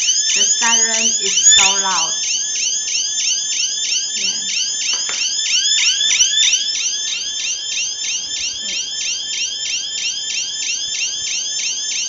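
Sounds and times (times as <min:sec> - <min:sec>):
electronic alarm siren warbling: 0:00.0 - 0:12.0.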